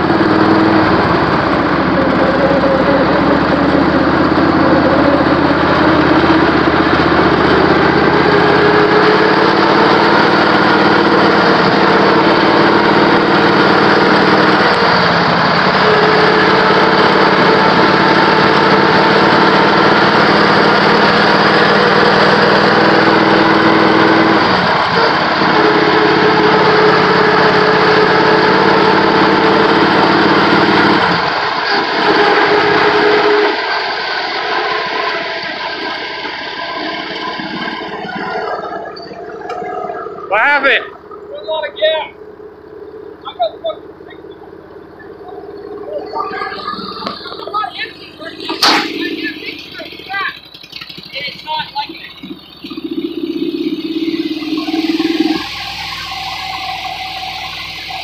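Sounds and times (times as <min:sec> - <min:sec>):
riding lawn mower engine: 0:00.0 - 0:58.0.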